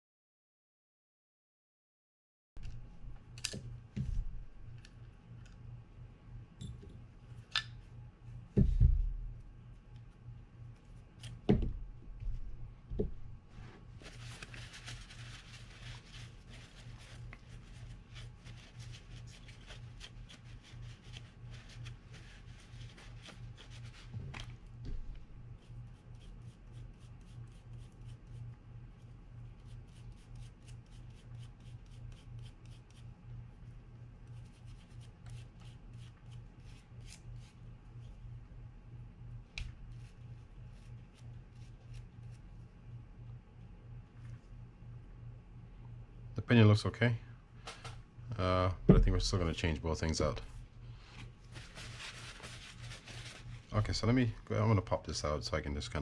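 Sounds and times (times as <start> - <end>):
low steady hum: 2.6 - 56.0.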